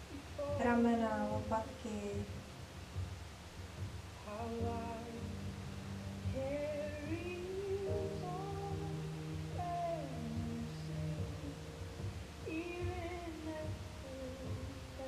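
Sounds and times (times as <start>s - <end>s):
calm background music: 0.0s - 15.0s.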